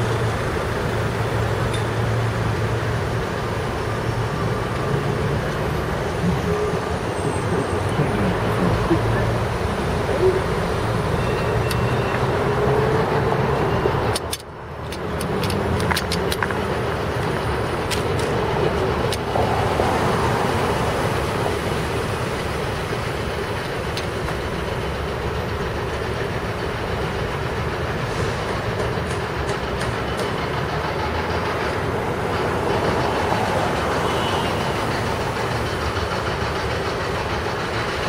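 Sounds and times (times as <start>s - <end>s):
city street traffic: 0.0s - 38.0s.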